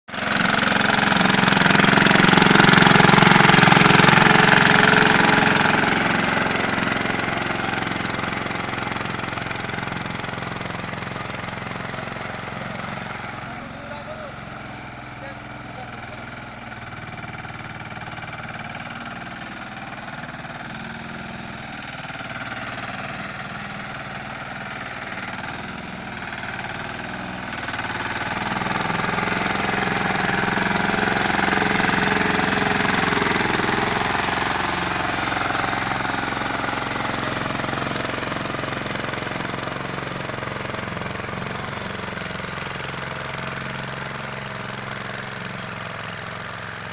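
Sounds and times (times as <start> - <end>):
tractor engine knocking: 0.1 - 46.9.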